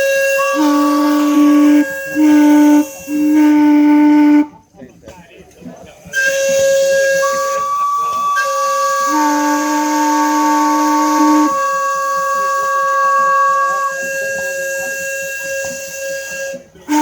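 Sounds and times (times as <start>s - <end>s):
steam whistles chord: 0.0s - 4.6s, 6.2s - 17.0s.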